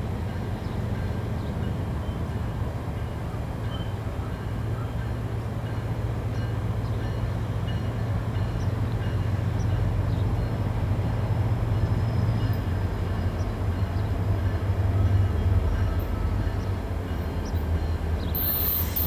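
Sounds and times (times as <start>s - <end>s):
distant diesel locomotive drone: 0.0s - 19.0s.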